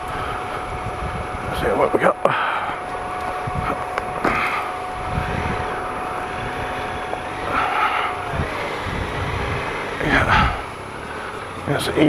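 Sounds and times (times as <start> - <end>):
motorcycle engine running slowly: 0.0 - 12.0.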